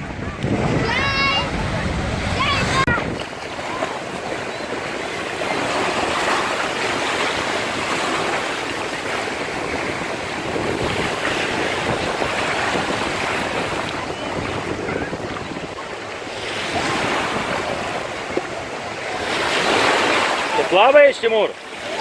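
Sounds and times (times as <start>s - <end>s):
wind on microphone: 0.0s - 20.6s
sea waves breaking on beach: 0.0s - 22.0s.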